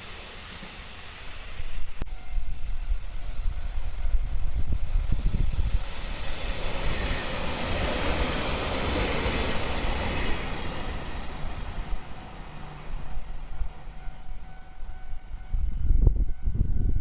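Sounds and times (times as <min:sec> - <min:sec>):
train passing close by: 0:00.0 - 0:17.0.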